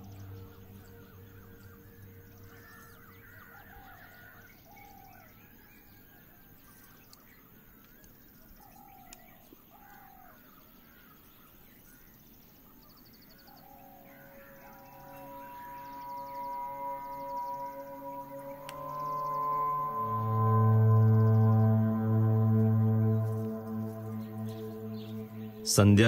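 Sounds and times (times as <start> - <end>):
faint birds calling: 0.0 - 25.9.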